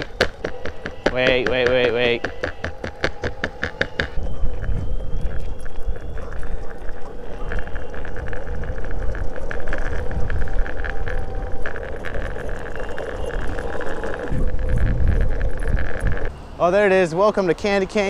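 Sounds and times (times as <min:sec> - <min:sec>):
cars running: 0:00.0 - 0:18.0
heavy low traffic rumble: 0:00.0 - 0:18.0.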